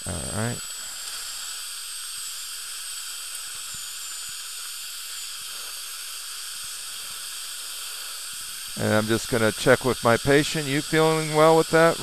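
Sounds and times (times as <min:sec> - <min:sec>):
dental drill whine: 0:00.0 - 0:12.0
steady hiss: 0:00.0 - 0:12.0.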